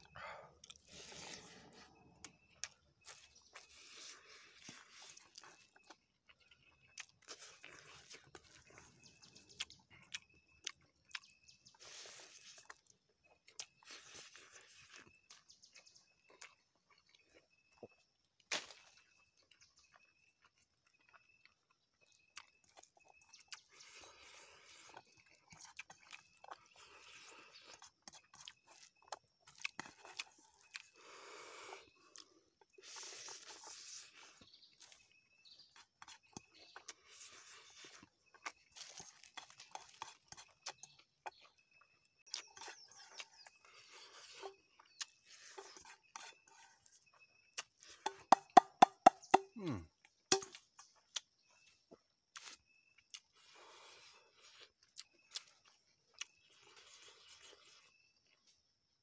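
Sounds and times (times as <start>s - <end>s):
person chewing: 0.0s - 58.6s.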